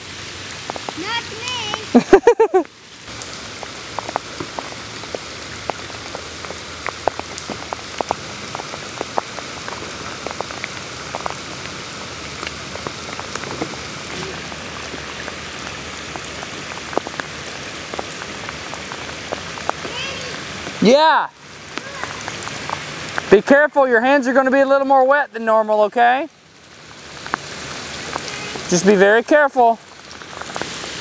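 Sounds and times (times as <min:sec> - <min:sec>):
heavy rain on floodwater: 0:00.0 - 0:31.0.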